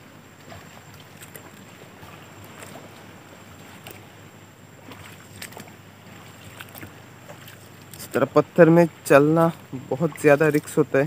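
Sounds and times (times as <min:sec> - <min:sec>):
faint water noise: 0:00.0 - 0:11.0
footsteps wading through water: 0:00.0 - 0:11.0.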